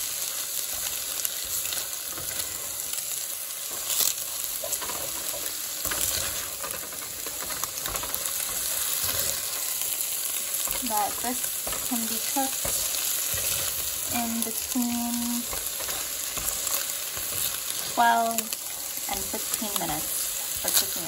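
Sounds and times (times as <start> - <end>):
food sizzling in a skillet: 0.0 - 21.0
spatula scraping a pan: 0.6 - 21.0.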